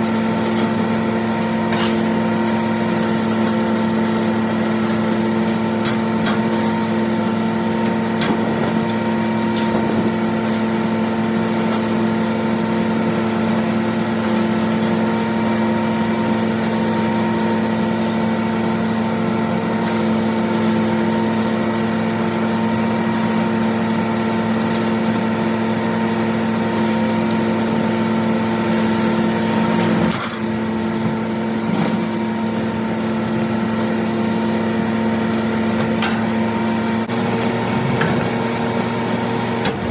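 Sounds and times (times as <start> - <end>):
hammermill grinding corn: 0.0 - 39.9
tractor diesel engine running: 0.0 - 39.9.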